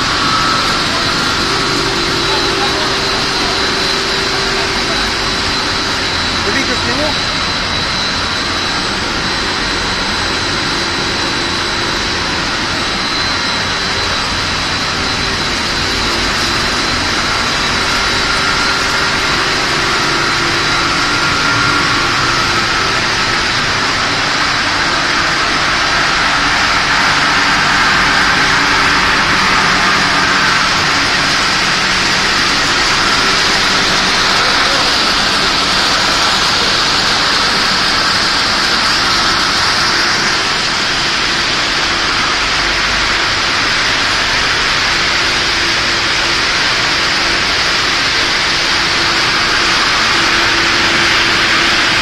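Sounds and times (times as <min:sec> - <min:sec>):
faint high whine: 0:00.0 - 0:52.0
machinery mechanical din: 0:00.0 - 0:52.0.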